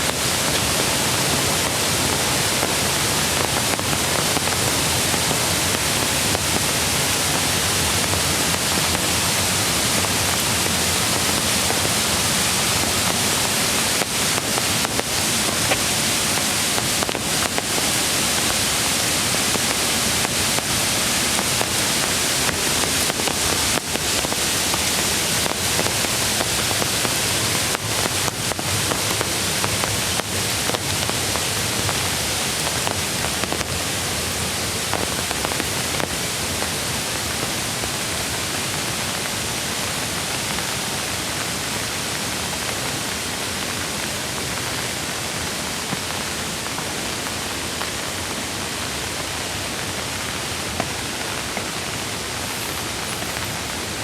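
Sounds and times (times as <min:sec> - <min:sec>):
rain: 0:00.0 - 0:54.0
rushing stream water: 0:00.0 - 0:54.0.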